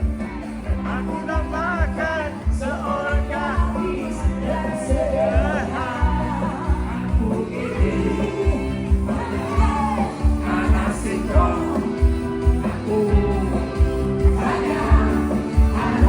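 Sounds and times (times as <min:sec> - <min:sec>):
sustained bass: 0:00.0 - 0:16.0.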